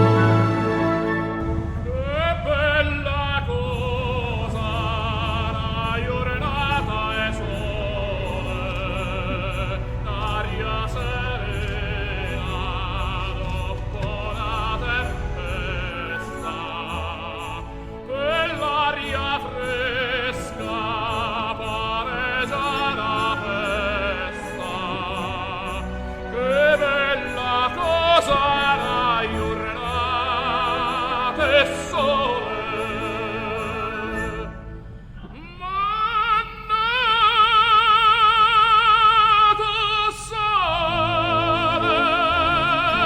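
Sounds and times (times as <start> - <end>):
orchestral accompaniment: 0.0 - 35.3, 40.5 - 43.0
operatic singing with vibrato: 0.0 - 43.0.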